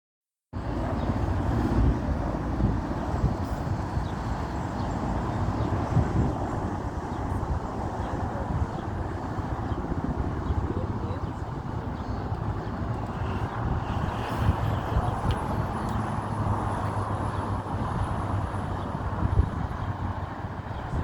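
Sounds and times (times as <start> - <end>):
gusty wind rumble on microphone: 0.6 - 21.0
helicopter rotor and engine: 0.6 - 21.0.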